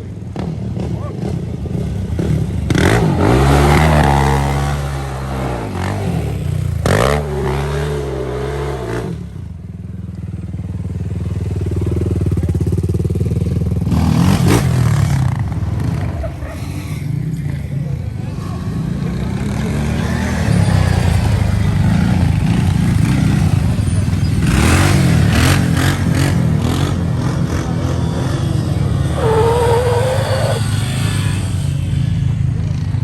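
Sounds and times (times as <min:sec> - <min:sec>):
motorbike engines revving: 0:00.0 - 0:33.0.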